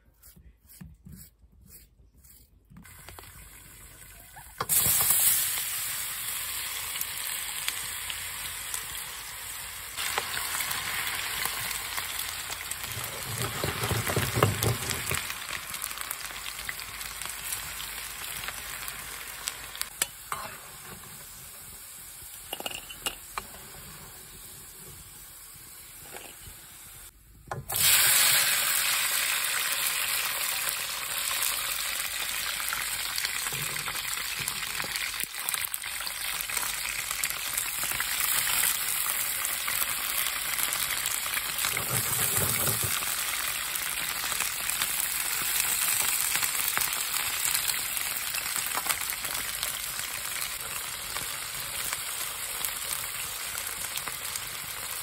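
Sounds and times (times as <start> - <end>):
peppers sizzling: 0.2 - 55.0
potatoes sizzling in hot oil: 2.8 - 55.0.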